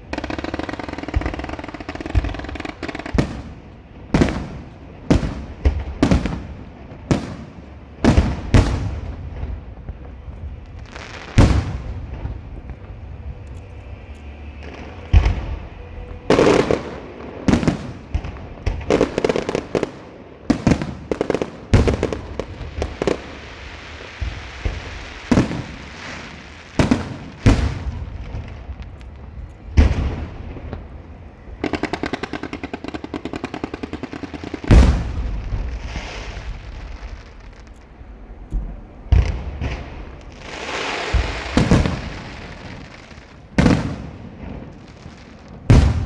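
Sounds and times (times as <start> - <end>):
fireworks bangs: 0.0 - 13.1, 14.6 - 46.0
fireworks crackling pops: 0.0 - 46.0.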